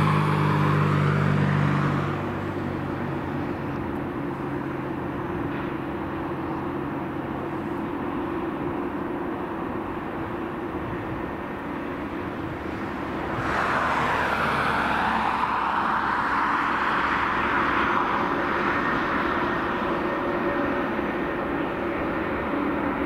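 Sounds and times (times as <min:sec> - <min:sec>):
jet engines at taxi power: 0:00.0 - 0:23.0.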